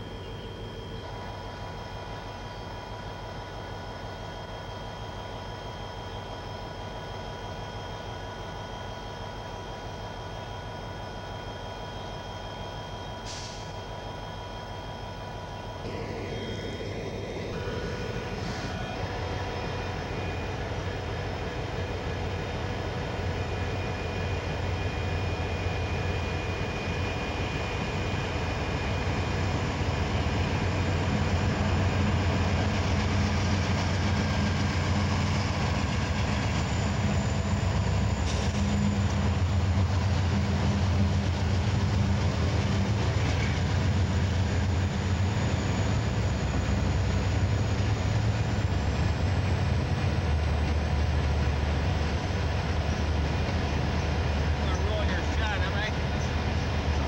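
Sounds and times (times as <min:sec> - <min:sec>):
diesel locomotive droning: 0:00.0 - 0:57.0.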